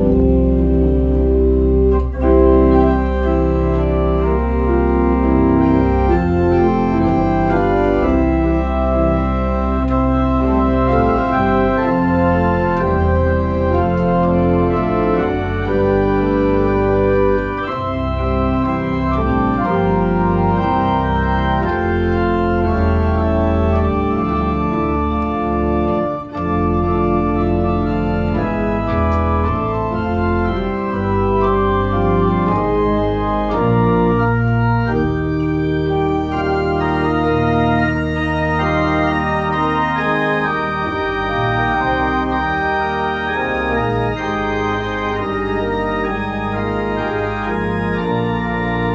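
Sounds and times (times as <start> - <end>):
pipe organ playing chords: 0.0 - 48.9.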